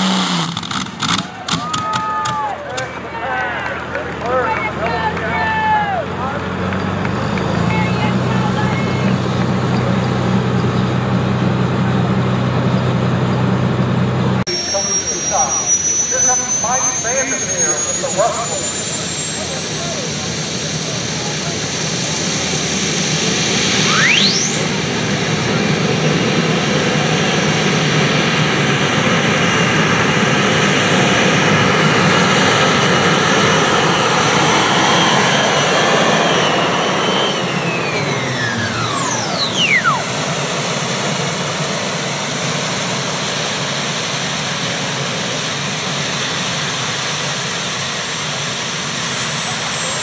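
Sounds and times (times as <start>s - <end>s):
gas turbine engine whine: 0.0s - 50.0s.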